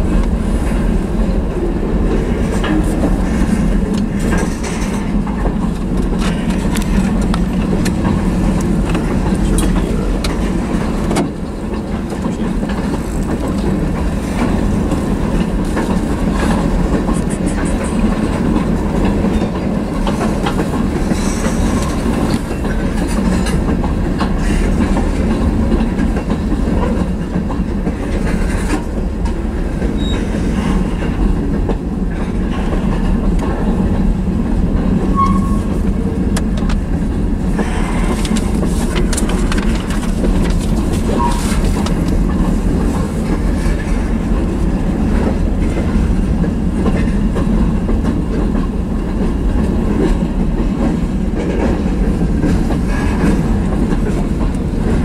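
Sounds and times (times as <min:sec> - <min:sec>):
train wheels rumbling on rails: 0:00.0 - 0:55.0
wheels clattering over rail joints: 0:00.0 - 0:55.0.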